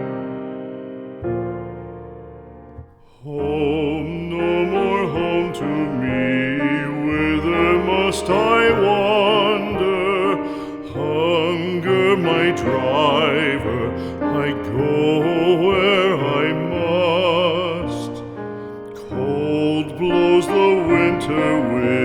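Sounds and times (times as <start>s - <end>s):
piano chord: 0.0s - 22.0s
slow soft music: 0.0s - 22.0s.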